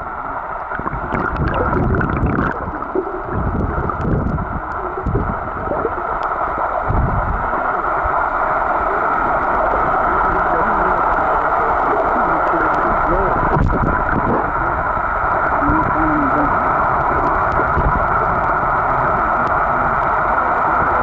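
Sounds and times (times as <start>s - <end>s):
low muffled water surges: 0.0s - 21.0s
underwater churning water and sand: 0.0s - 21.0s.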